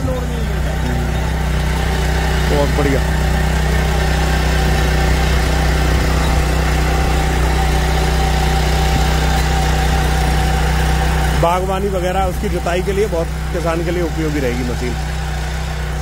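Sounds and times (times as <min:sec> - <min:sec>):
power weeder engine humming: 0:00.0 - 0:16.0.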